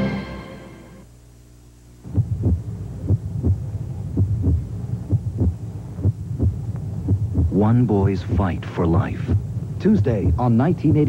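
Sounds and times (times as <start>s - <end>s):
heartbeat thumps: 2.0s - 11.0s.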